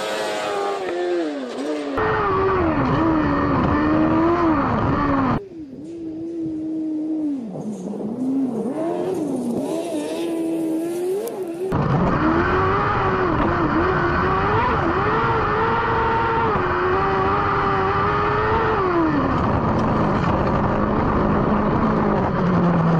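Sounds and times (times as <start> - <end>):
buggy engine revving: 0.0 - 5.4, 6.8 - 22.9.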